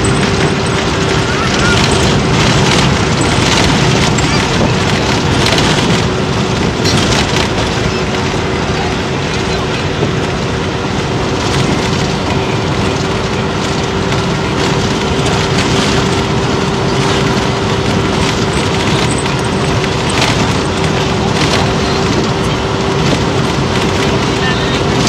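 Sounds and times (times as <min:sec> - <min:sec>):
car interior road roar: 0:00.0 - 0:25.0.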